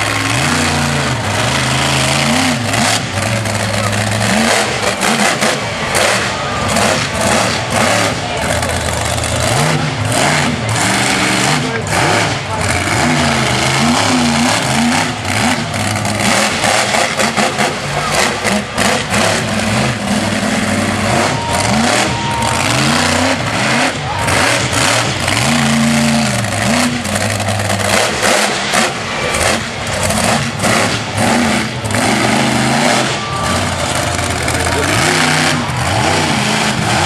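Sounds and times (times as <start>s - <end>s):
loud rough noisy wash: 0.0s - 37.0s
monster truck engine revving: 0.0s - 37.0s.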